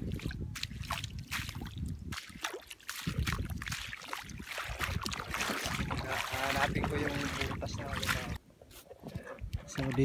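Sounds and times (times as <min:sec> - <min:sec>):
wet footsteps through mud: 0:00.0 - 0:10.0.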